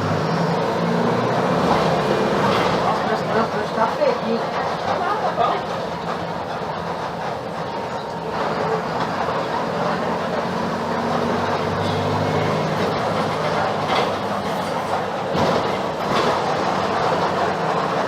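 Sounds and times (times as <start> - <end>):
bus body rattling: 0.0 - 18.0
bus diesel engine running: 0.0 - 18.0
road noise: 0.0 - 18.0.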